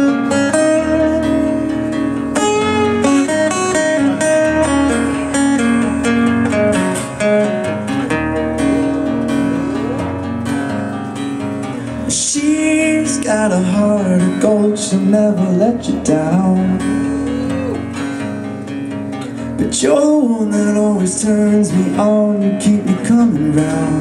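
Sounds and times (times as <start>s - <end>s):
low bass line: 0.0s - 19.4s
acoustic guitar strumming: 0.0s - 24.0s.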